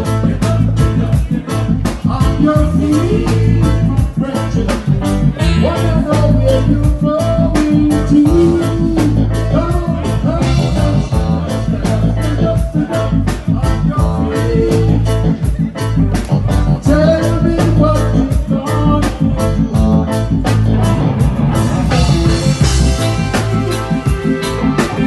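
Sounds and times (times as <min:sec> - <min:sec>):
band playing a song: 0:00.0 - 0:25.0
bass line: 0:00.0 - 0:25.0
person singing: 0:00.0 - 0:25.0.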